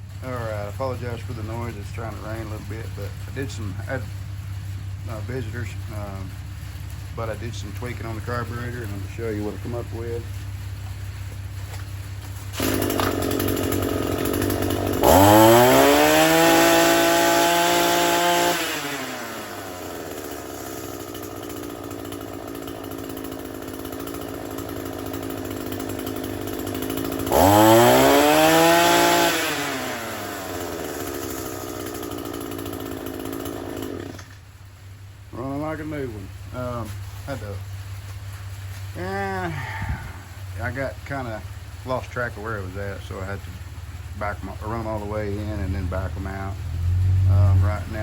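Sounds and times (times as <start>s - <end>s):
string trimmer engine revving: 0.0s - 34.5s, 35.3s - 38.0s, 38.7s - 48.0s.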